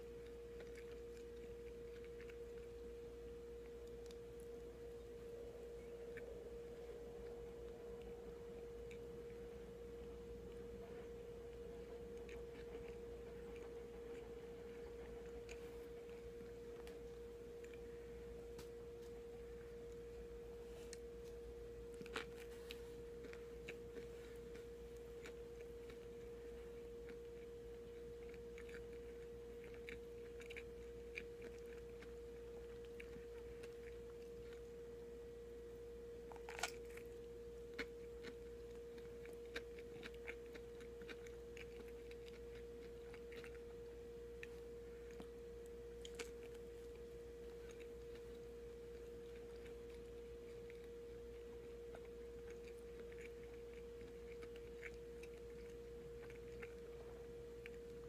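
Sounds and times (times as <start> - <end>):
chewing soft bread: 0.0 - 58.0
faint steady hum: 0.0 - 58.0.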